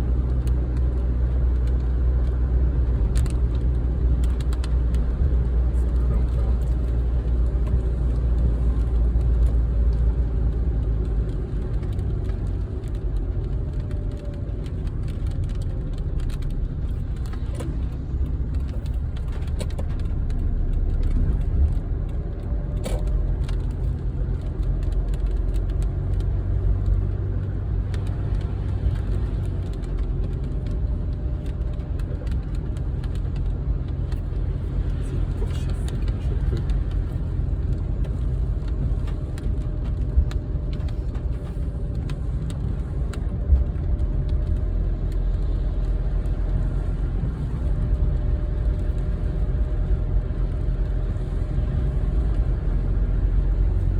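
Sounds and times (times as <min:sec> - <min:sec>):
car rumbling through storm: 0:00.0 - 0:53.9.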